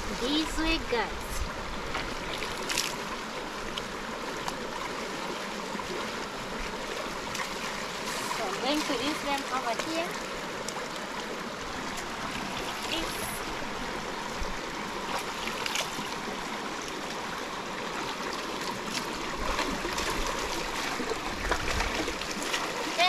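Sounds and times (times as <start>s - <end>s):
small water splashes: 0.0s - 23.0s
stream running over rocks: 0.0s - 23.0s.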